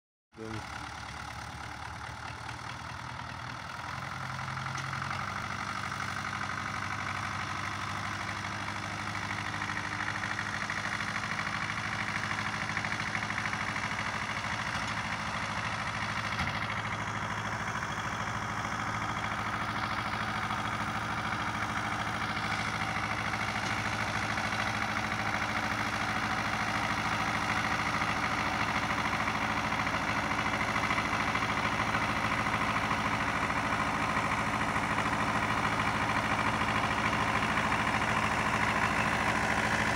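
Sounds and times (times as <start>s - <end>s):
tractor diesel engine running: 0.4s - 39.9s.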